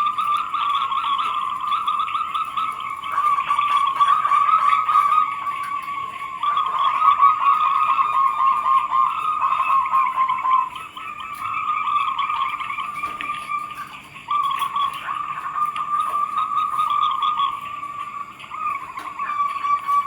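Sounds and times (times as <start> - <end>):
doves cooing in trilled phrases: 0.0 - 20.0.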